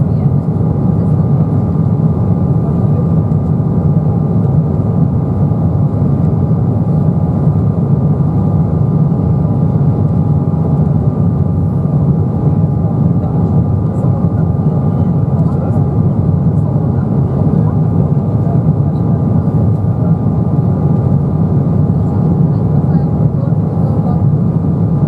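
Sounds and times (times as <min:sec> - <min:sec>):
jet cabin rumble: 0:00.0 - 0:25.0.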